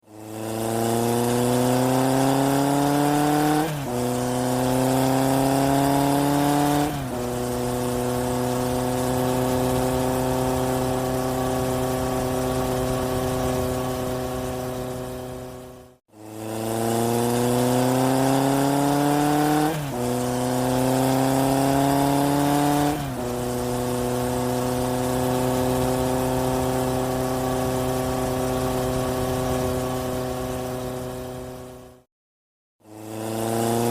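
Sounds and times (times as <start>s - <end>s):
truck engine accelerating: 0.1s - 32.0s.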